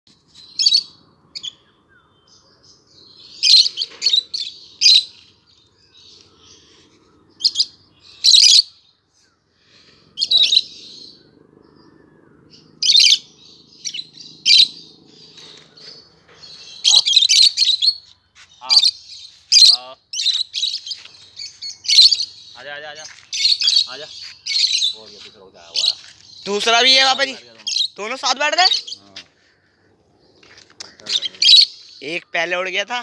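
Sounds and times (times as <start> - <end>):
lovebirds shrill calls: 0.2 - 33.0.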